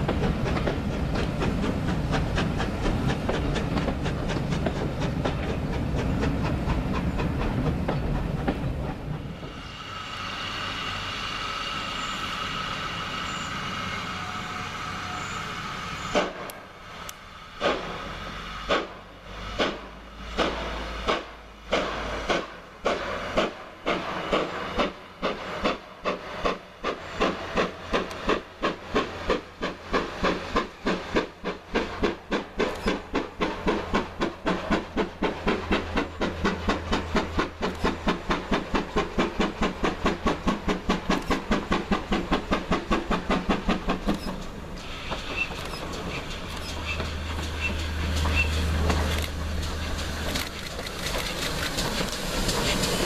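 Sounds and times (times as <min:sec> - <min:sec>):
steam hissing: 0:00.0 - 0:53.0
steam locomotive exhaust beats: 0:00.0 - 0:53.0.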